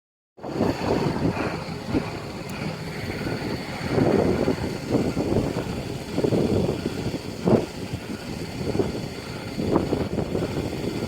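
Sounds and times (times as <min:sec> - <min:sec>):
wind buffeting microphone: 0:00.4 - 0:11.0.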